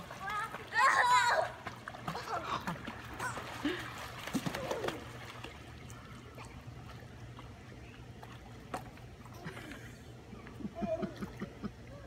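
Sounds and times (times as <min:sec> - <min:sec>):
pool water splashing: 0:00.0 - 0:12.0.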